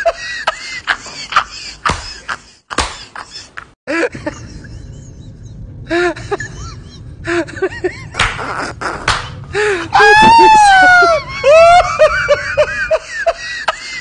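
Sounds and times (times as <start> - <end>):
men laughing: 0.0 - 14.0.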